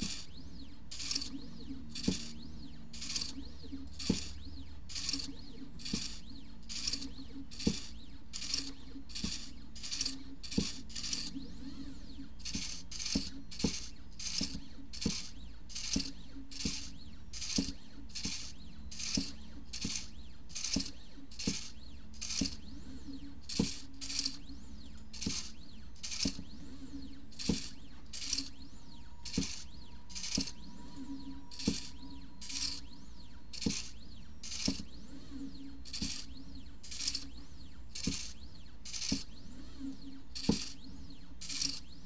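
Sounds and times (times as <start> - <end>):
pen plotter clicking and rasping: 0.0 - 30.7, 31.5 - 42.0
low machine hum: 0.0 - 42.0.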